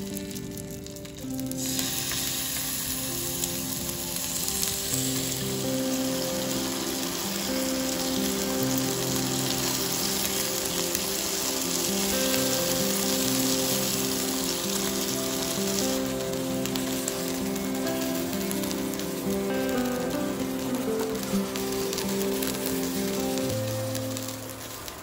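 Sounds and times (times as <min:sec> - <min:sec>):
chicken wings sizzling in oil: 0:00.0 - 0:25.0
soft background music: 0:00.0 - 0:25.0.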